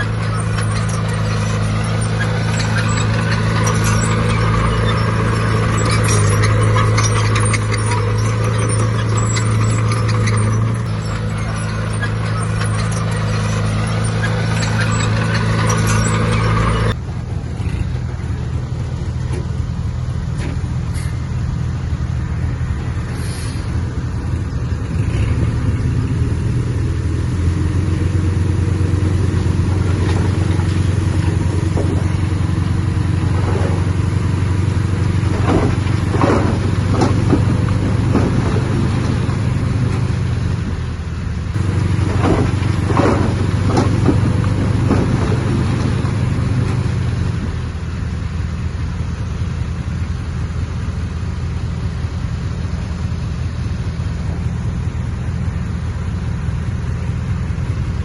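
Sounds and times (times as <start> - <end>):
metal and soil clattering: 0.0 - 21.4, 22.2 - 47.9
heavy diesel machinery running: 0.0 - 58.0.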